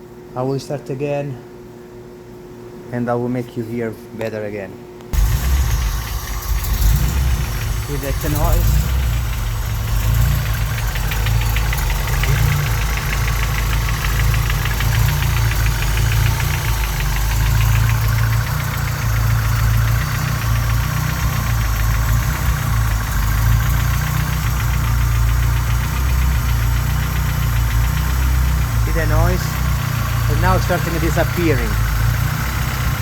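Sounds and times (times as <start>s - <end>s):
car engine idling with knocking: 5.2s - 33.0s.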